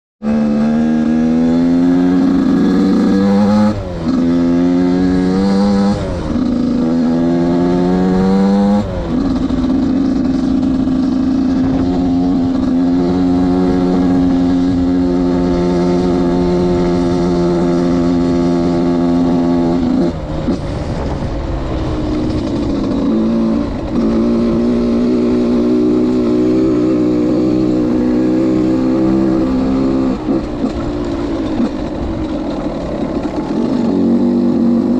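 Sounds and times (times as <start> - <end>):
two-stroke motocross bike accelerating: 0.2 - 34.9.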